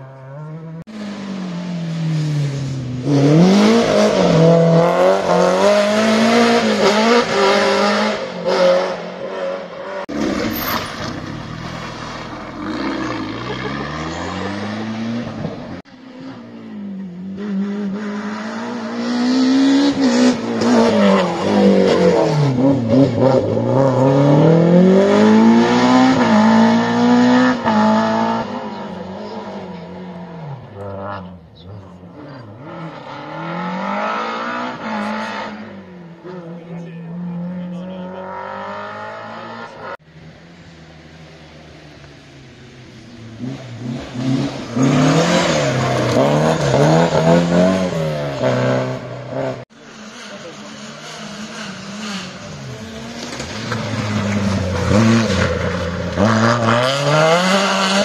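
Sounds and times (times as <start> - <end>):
rally cars revving past: 0.0 - 40.0, 42.8 - 58.0.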